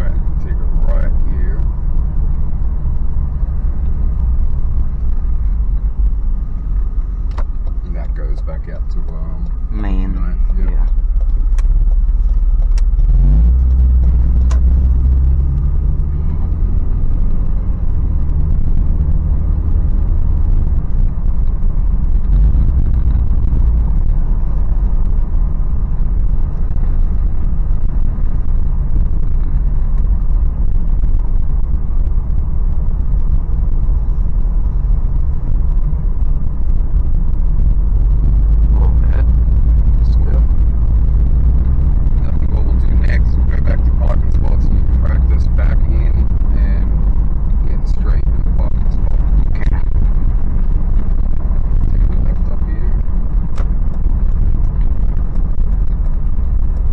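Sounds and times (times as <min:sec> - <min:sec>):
car engine running: 0:00.0 - 0:56.9
road noise rumble: 0:00.0 - 0:56.9.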